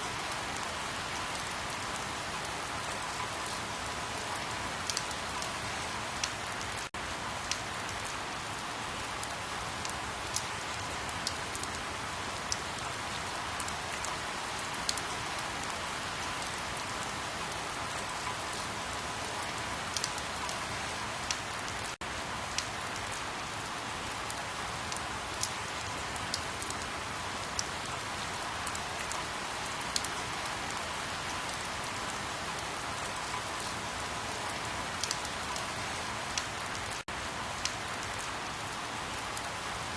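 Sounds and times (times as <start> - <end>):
steady rain hiss: 0.0 - 39.9
raindrops ticking on surface: 0.1 - 39.9.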